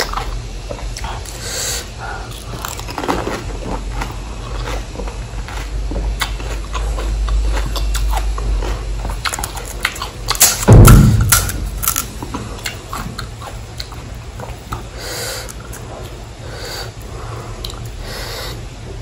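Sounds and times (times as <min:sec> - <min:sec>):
crunching and chewing: 0:00.0 - 0:18.6.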